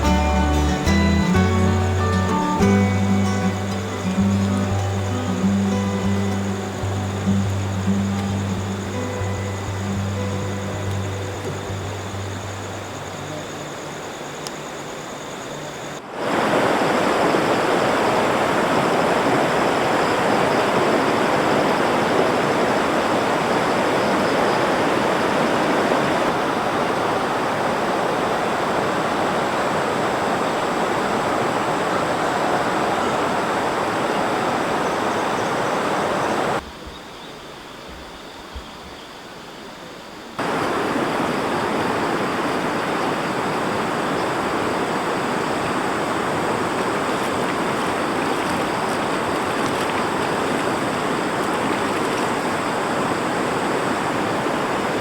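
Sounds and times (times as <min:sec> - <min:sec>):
river water rushing: 0:00.0 - 0:36.6, 0:40.4 - 0:55.0.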